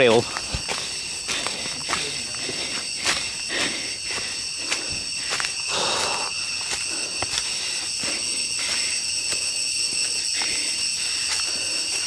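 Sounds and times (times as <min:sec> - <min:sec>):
cicadas buzzing: 0:00.0 - 0:12.0
footsteps on forest trail: 0:00.0 - 0:12.0.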